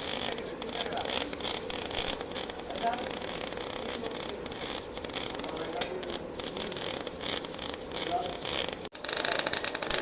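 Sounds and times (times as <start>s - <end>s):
welding arc crackling and buzzing: 0.0s - 10.0s.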